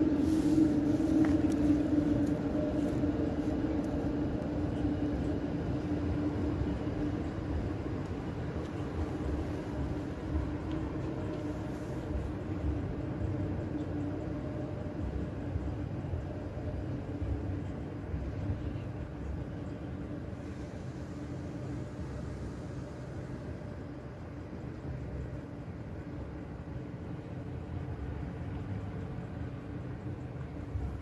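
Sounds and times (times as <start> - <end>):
electric tram passing: 0.0 - 31.0.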